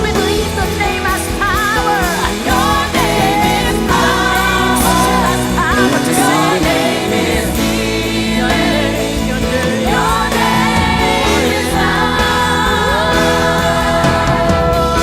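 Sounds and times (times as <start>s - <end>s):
band playing held chords: 0.0s - 15.0s
vocalists singing: 0.0s - 15.0s.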